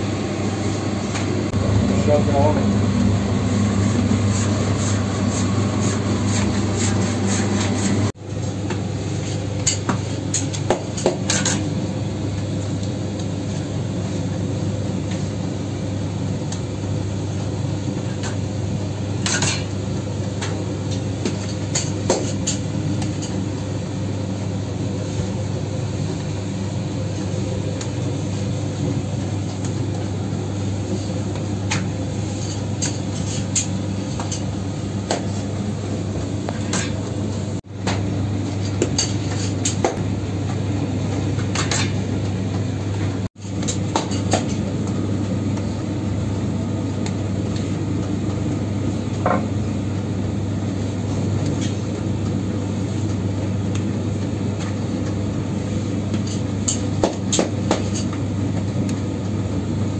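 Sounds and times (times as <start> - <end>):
dough machines humming: 0.0 - 59.9.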